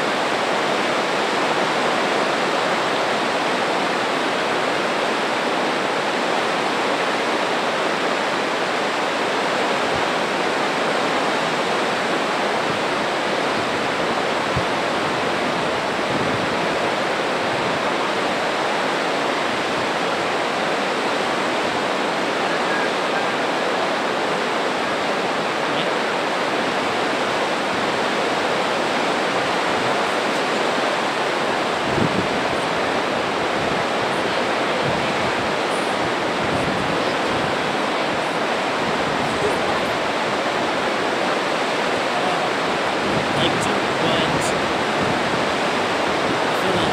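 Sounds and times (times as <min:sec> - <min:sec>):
white water rushing: 0:00.0 - 0:46.9.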